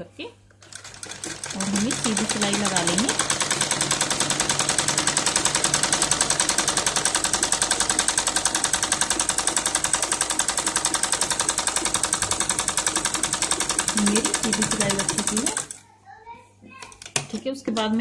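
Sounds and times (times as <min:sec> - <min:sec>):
sewing machine stitching: 0:00.6 - 0:15.8.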